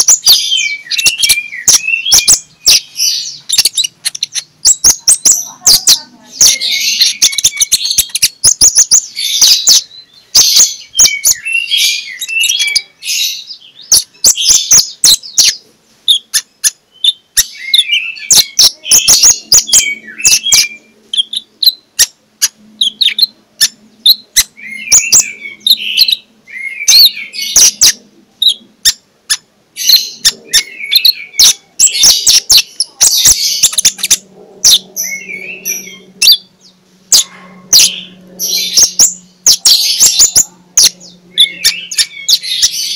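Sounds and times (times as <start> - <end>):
bird singing sharp high chirps: 0.0 - 42.9.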